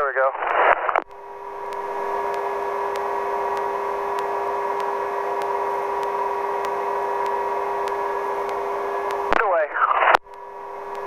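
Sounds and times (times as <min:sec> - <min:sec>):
helicopter turbine whine: 0:01.1 - 0:11.0.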